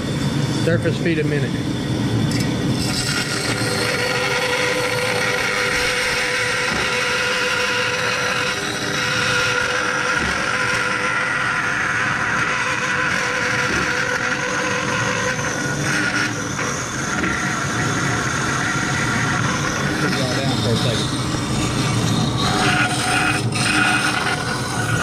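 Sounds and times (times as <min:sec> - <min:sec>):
bandsaw humming: 0:00.0 - 0:25.0.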